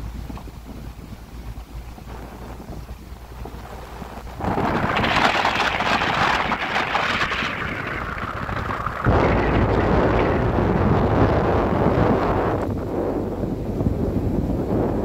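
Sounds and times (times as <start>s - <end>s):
tyres on gravel road: 0.0s - 13.3s
wind buffeting microphone: 0.0s - 15.0s.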